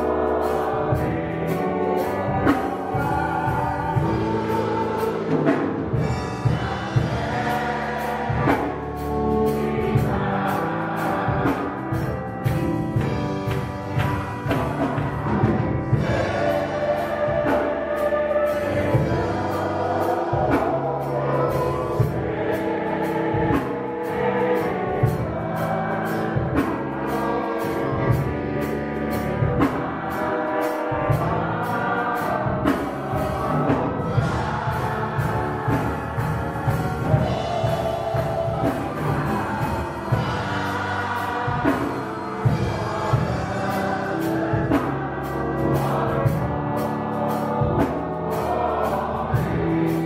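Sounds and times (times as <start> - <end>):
group singing gospel music: 0.0 - 50.0
instrumental accompaniment: 0.0 - 50.0
steady drum beat: 0.0 - 50.0.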